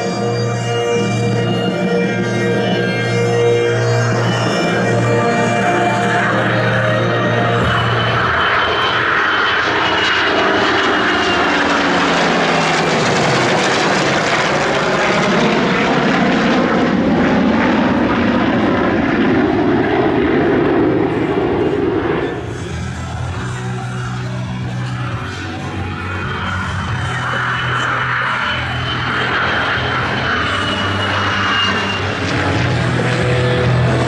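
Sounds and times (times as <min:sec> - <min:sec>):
plane flying past: 0:00.0 - 0:34.0.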